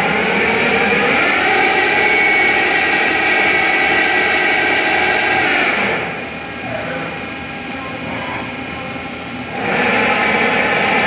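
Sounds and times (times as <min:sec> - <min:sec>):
lathe spindle whining: 0:00.0 - 0:11.0.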